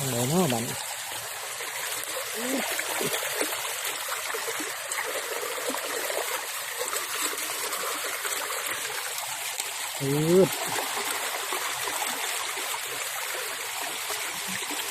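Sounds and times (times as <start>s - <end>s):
floodwater rushing: 0.0s - 14.9s
water gurgling: 0.0s - 14.9s.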